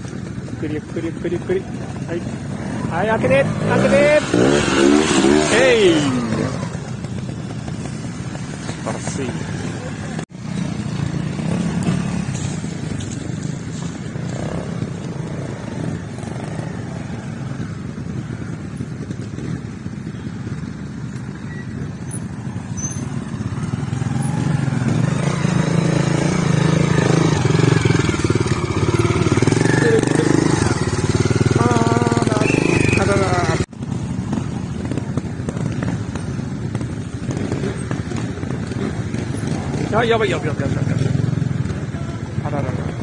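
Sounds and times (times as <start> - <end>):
motorcycle engine with throttle blips: 0.0 - 43.0.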